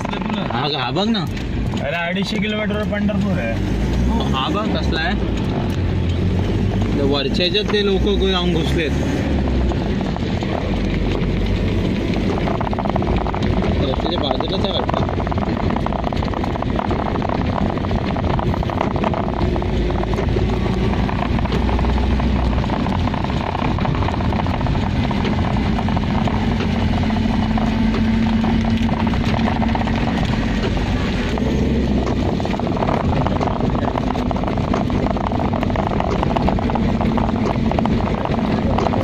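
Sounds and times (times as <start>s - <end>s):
car engine and tyre noise: 0.0s - 39.0s
rain pattering on car: 0.0s - 39.0s.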